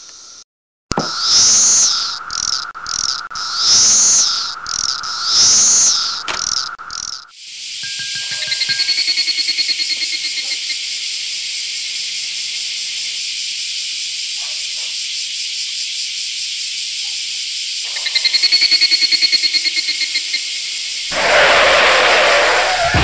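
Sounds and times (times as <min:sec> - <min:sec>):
cicadas buzzing: 0:00.0 - 0:00.4, 0:01.0 - 0:23.0
rapidly pulsing insect call: 0:01.1 - 0:23.0.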